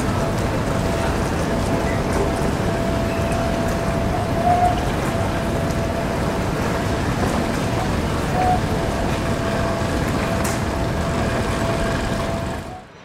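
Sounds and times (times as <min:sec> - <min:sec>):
baggage carousel rumbling: 0:00.0 - 0:12.9
constant hum: 0:00.0 - 0:13.0.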